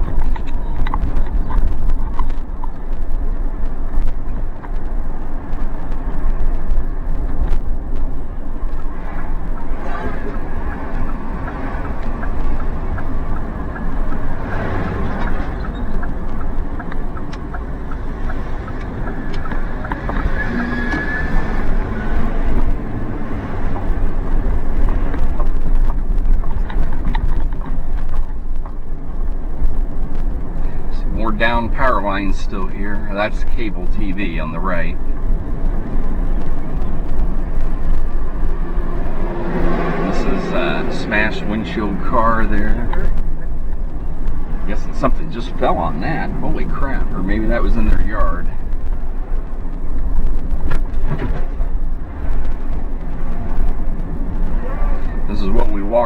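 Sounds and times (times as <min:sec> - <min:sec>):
light ticks: 0:00.0 - 0:55.8
car road and engine rumble: 0:00.0 - 0:56.0.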